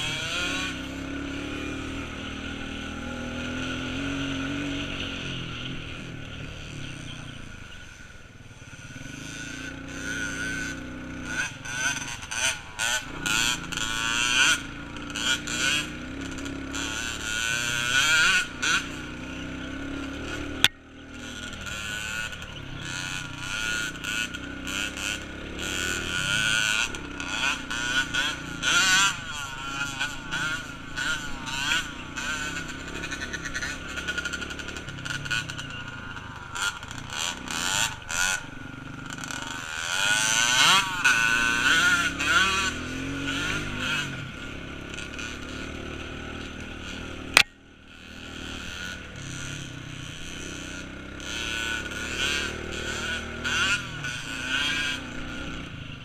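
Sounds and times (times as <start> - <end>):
small engine revving: 0.0 - 56.0.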